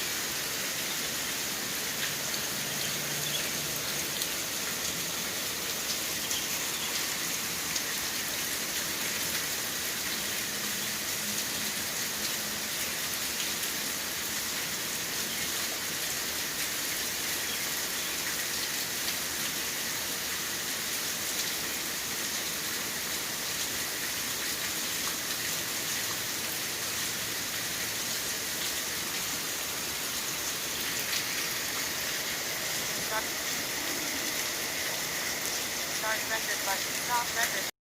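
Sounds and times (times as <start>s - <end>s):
steady rain: 0.0s - 37.8s.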